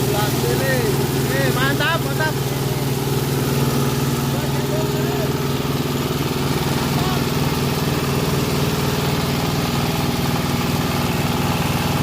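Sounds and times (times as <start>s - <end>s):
chaff chopper engine running: 0.0s - 12.0s.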